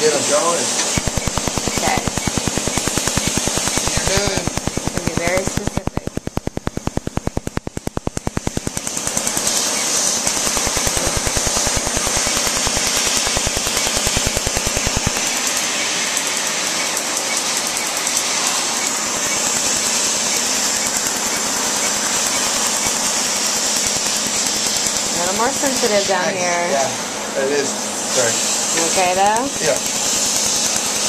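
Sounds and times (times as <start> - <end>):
laser snapping pulses: 0.8 - 26.1, 29.0 - 31.0.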